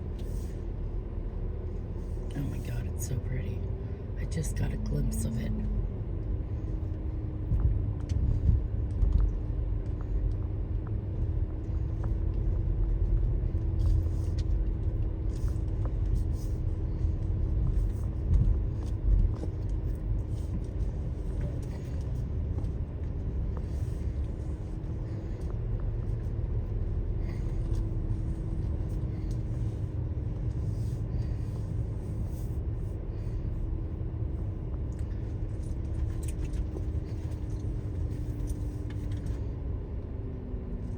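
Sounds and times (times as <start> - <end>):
car engine hum: 0.0 - 40.9
low road rumble: 0.0 - 40.9.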